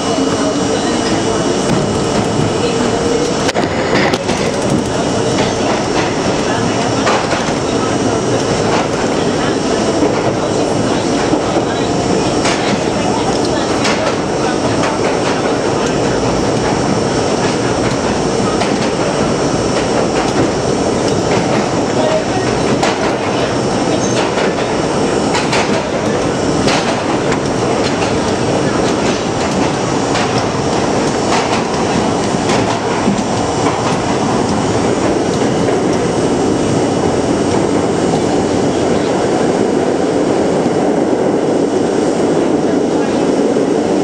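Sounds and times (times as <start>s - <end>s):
subway train wheels rumbling on rail: 0.0s - 44.0s.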